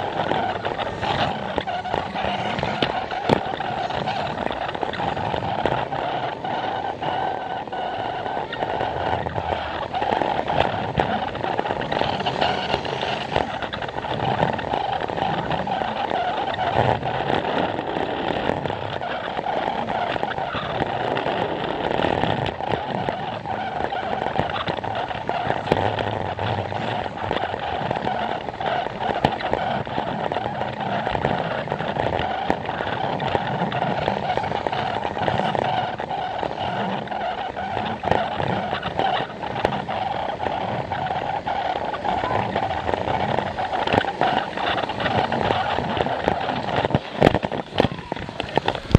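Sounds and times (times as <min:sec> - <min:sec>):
toy train motor whirring: 0:00.0 - 0:48.9
wheels clicking over track joints: 0:00.0 - 0:48.9.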